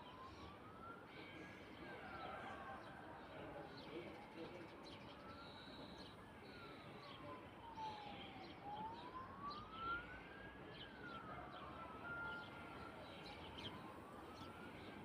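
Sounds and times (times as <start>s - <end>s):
faint siren wailing: 0.0s - 3.2s, 5.0s - 15.0s.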